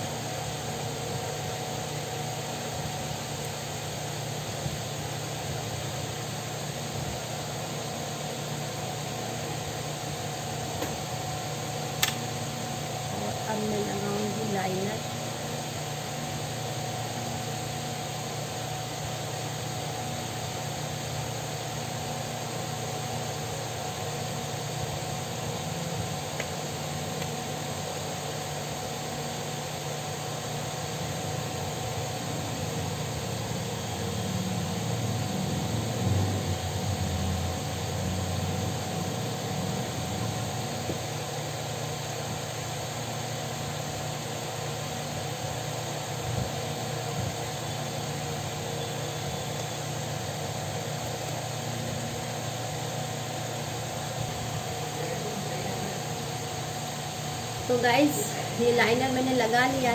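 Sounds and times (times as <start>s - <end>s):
faint steady whine: 0.0s - 59.9s
mechanical hum and hiss: 0.0s - 59.9s.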